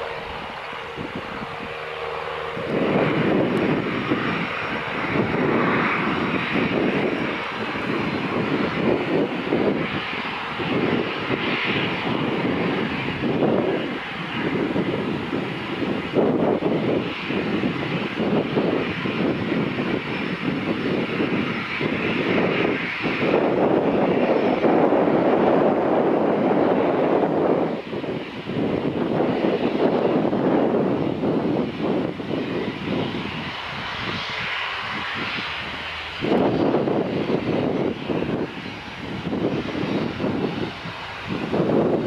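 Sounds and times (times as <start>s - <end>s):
faint high engine whine: 0.0s - 42.0s
jet engines rumbling: 0.0s - 42.0s.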